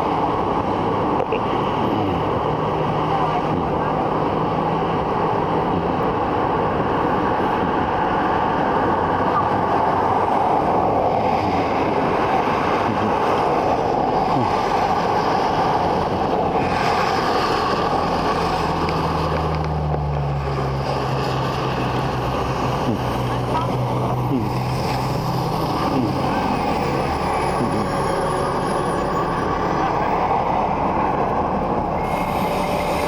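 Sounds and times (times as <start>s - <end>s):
constant rushing noise: 0.0s - 33.0s
vehicle engine humming: 0.0s - 33.0s.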